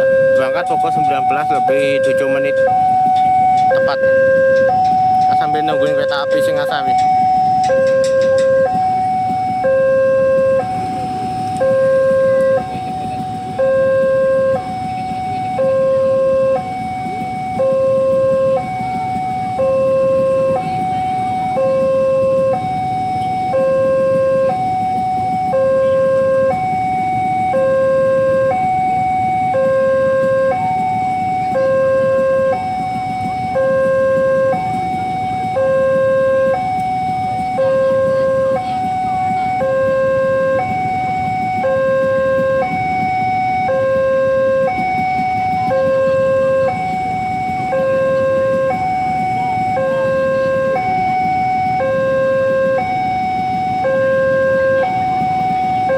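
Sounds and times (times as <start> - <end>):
motorcycle engines idling: 0.0 - 55.9
two-tone crossing alarm: 0.0 - 55.9.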